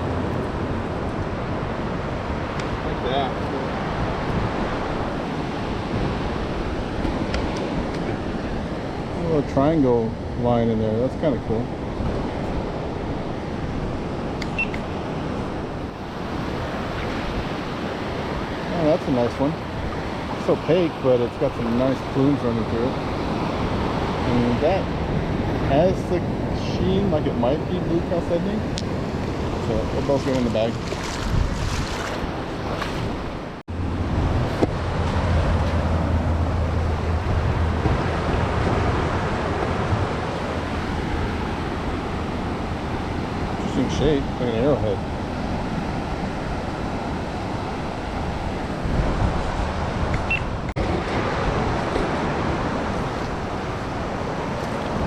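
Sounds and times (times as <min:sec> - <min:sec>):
wind on microphone: 0:00.0 - 0:10.8, 0:11.6 - 0:55.0
surf washing on beach: 0:00.0 - 0:55.0.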